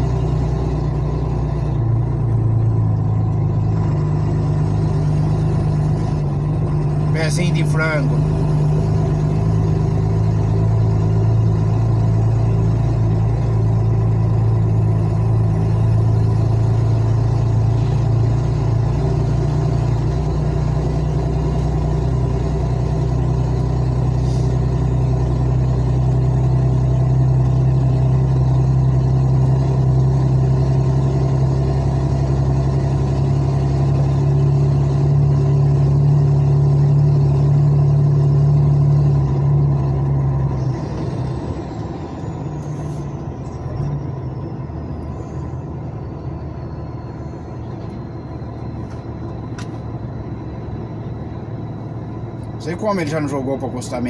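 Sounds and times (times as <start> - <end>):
truck diesel engine drone: 0.0 - 54.0.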